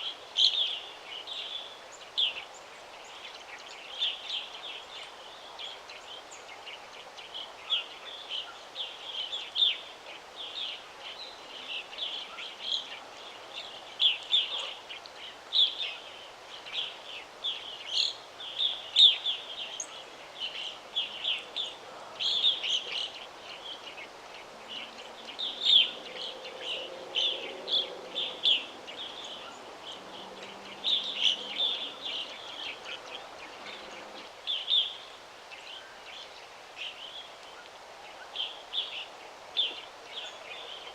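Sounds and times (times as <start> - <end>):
outdoor background hiss: 0.0 - 40.9
songbirds chirping and singing: 0.0 - 40.9.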